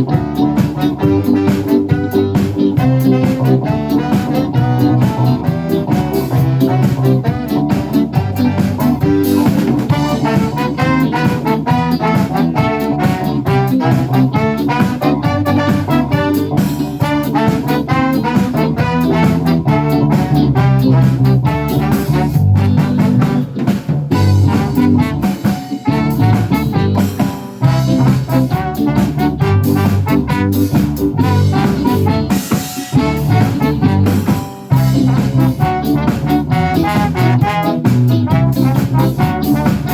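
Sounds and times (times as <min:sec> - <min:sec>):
live band playing upbeat song: 0:00.0 - 0:39.9.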